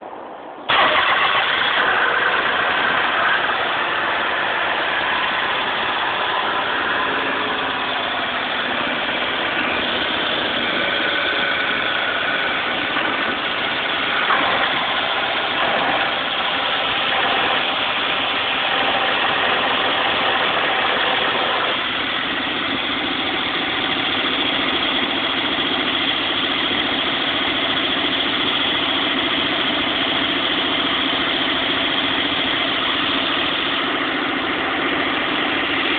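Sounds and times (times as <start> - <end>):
car engine idling: 0.5 - 35.9
engine bay rattle: 0.7 - 35.9.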